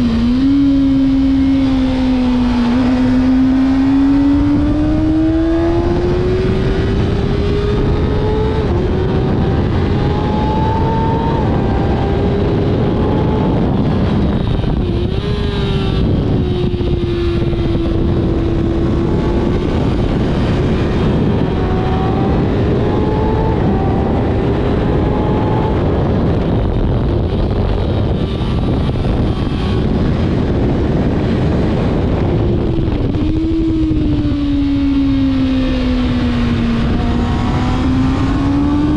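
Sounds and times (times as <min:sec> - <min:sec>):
motorcycle engine running hard: 0:00.0 - 0:38.9
wind noise rushing: 0:00.0 - 0:38.9.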